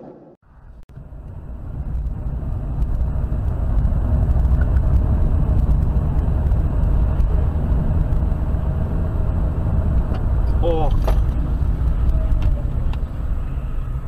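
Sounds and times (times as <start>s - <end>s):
car driving at highway speed: 0.5s - 14.0s.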